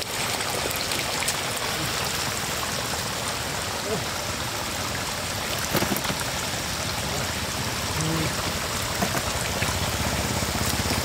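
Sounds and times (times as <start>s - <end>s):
floodwater trickling over mud: 0.0s - 11.0s.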